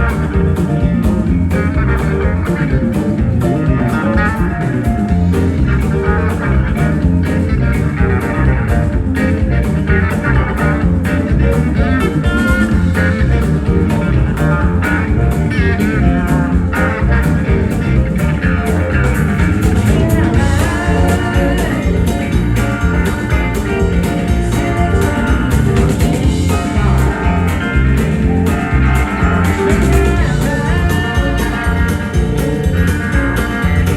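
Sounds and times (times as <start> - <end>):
bass guitar: 0.0 - 33.9
drum beat: 0.0 - 33.9
electric guitar lead: 0.0 - 33.9.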